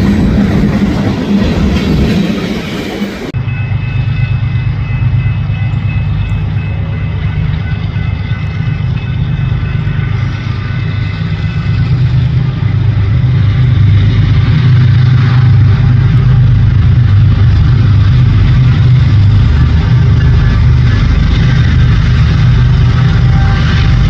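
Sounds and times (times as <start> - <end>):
diesel locomotives approaching: 0.0 - 24.0.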